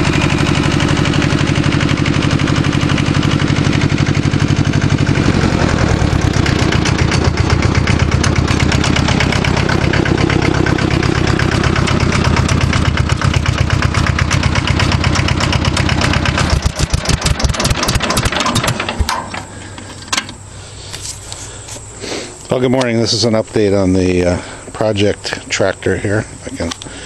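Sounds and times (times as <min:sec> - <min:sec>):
diesel tractor engine running: 0:00.0 - 0:27.0.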